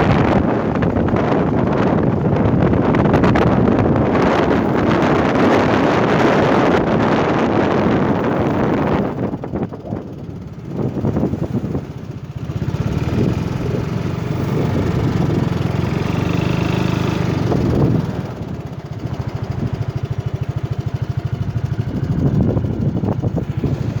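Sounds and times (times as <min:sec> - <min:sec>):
scooter engine idling: 0:00.0 - 0:24.0
wind buffeting microphone: 0:00.0 - 0:24.0.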